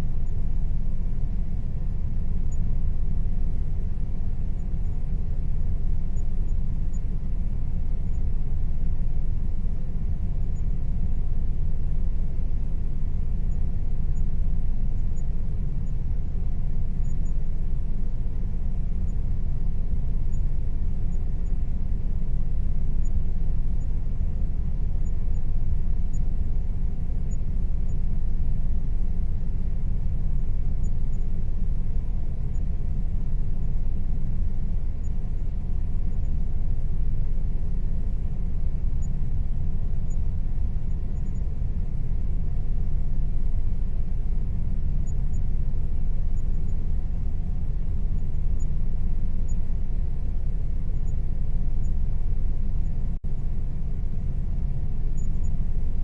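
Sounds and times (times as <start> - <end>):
air conditioner running: 0.0 - 56.0.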